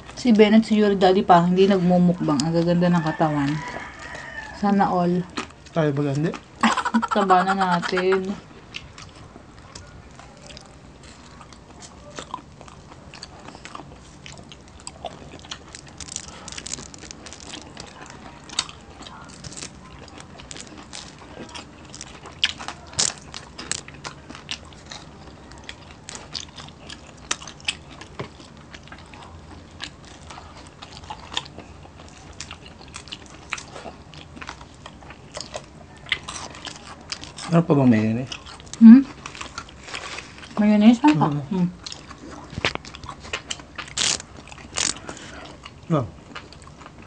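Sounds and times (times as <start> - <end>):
chewing crispy fried food: 0.0 - 47.0.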